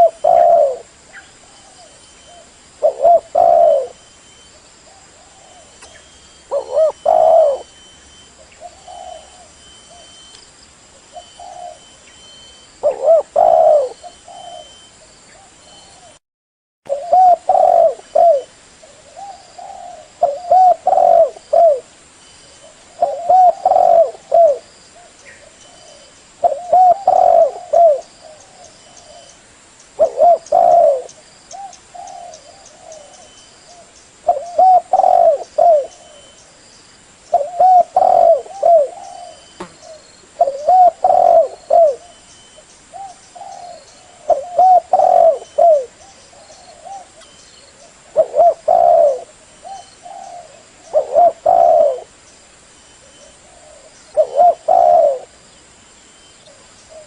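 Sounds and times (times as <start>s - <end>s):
dove cooing: 0.0s - 4.0s, 4.9s - 10.3s, 11.1s - 11.9s, 12.8s - 16.2s, 16.9s - 21.9s, 22.6s - 29.3s, 30.0s - 36.4s, 37.3s - 42.2s, 42.9s - 52.2s, 53.0s - 55.4s, 56.4s - 57.0s.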